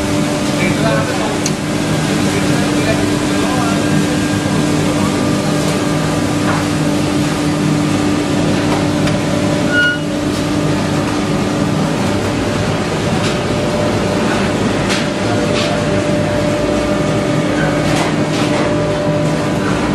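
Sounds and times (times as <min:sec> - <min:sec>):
constant hum: 0:00.0 - 0:19.9.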